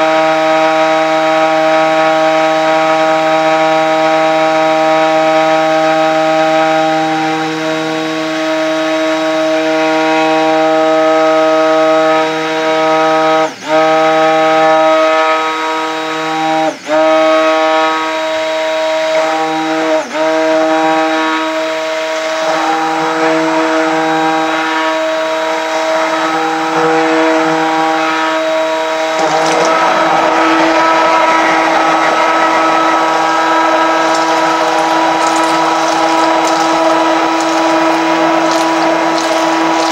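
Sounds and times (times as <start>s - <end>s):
immersion blender motor whine: 0.0s - 39.9s.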